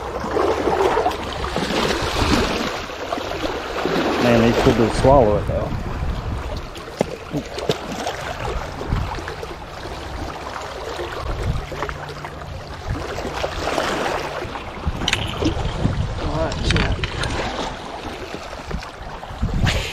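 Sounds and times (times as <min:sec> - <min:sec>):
small waves lapping on rocks: 0:00.0 - 0:19.9.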